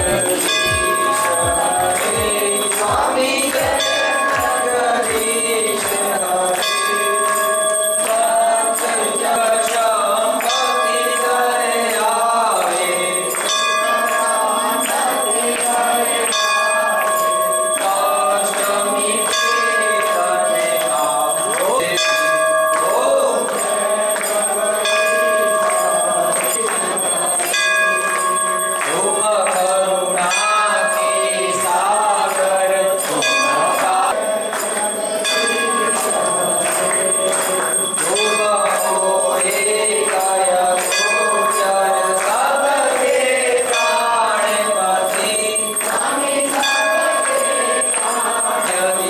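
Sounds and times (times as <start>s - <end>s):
voices singing a hymn: 0.0s - 22.1s, 22.8s - 49.0s
hand bell ringing: 0.0s - 49.0s.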